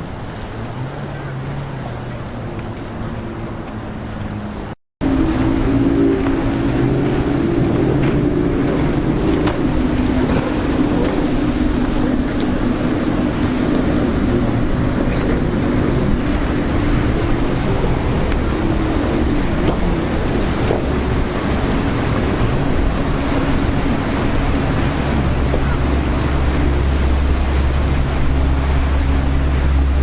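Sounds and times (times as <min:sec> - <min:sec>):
motorboat engines humming: 0:00.0 - 0:30.0
surf: 0:00.0 - 0:30.0
wind: 0:00.0 - 0:30.0.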